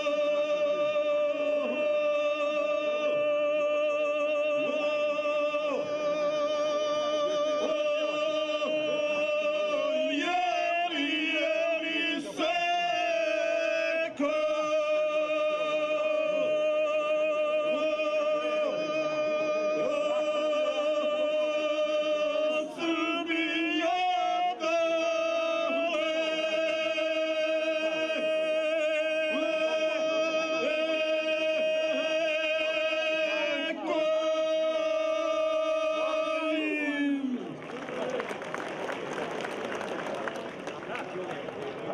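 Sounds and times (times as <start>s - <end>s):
two men singing unaccompanied: 0.0s - 37.5s.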